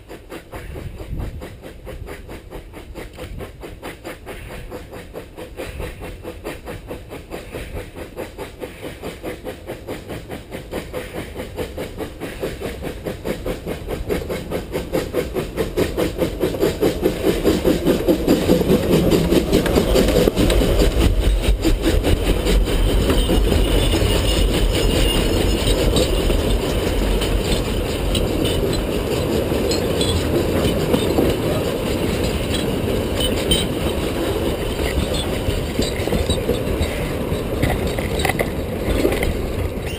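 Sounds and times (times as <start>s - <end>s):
steam locomotive chuffing: 0.0s - 39.9s
wheels clicking over rail joints: 0.0s - 39.9s.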